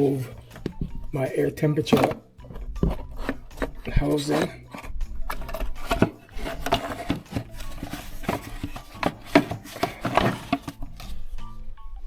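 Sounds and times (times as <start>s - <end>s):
knocks clicks and rubbing of plastic: 0.5s - 1.0s, 1.8s - 11.2s.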